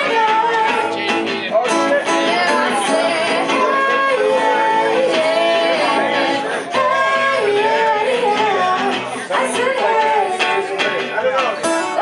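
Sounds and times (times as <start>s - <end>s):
person singing live: 0.0s - 12.0s
strummed guitar: 0.0s - 12.0s.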